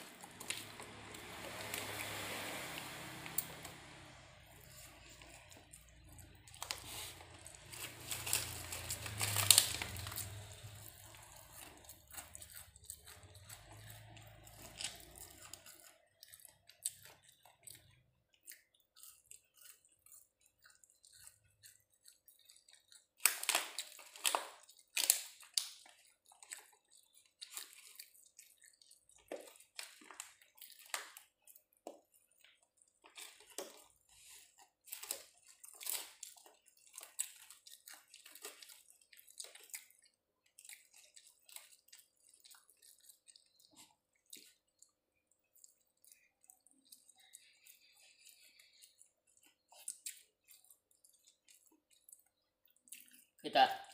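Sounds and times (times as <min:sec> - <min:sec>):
chewing and lip-smacking: 0:00.0 - 0:53.9.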